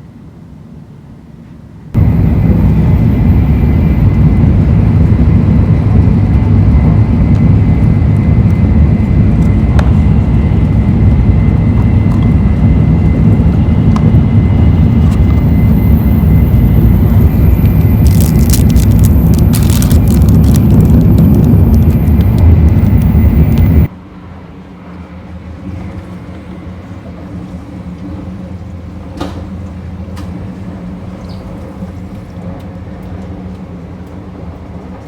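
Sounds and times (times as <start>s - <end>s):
train rumbling at speed: 0.0s - 35.0s.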